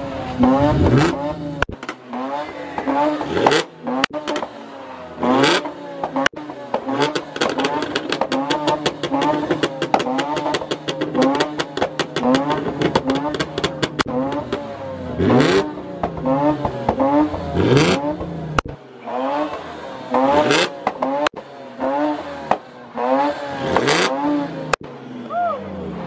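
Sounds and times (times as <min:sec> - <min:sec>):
car engine revving hard: 0:00.0 - 0:25.2.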